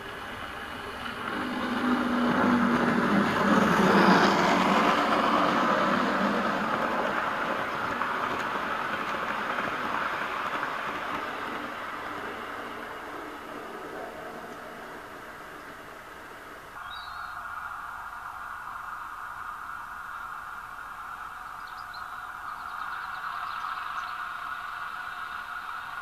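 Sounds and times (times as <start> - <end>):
low hum of model train: 0.0 - 26.0
model train wheels on rails: 0.0 - 26.0.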